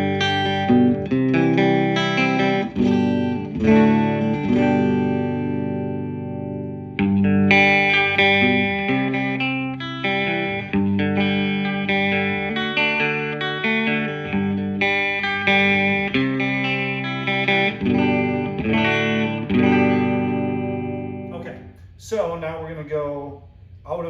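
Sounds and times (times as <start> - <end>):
electric guitar chords ringing: 0.0 - 21.8.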